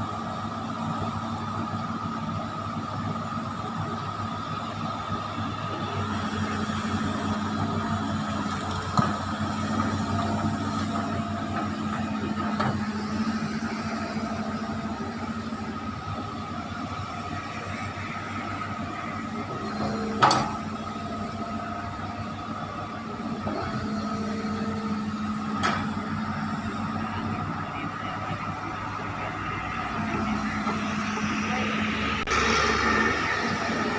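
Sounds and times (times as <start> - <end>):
excavator engine running: 0.0 - 33.9.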